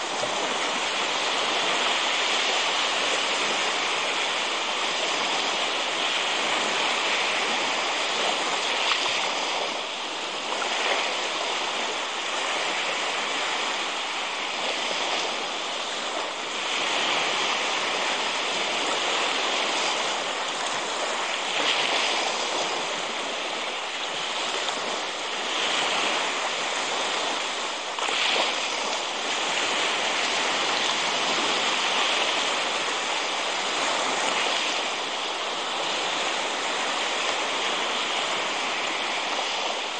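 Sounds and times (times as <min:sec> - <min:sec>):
small waves washing on sand: 0:00.0 - 0:39.9.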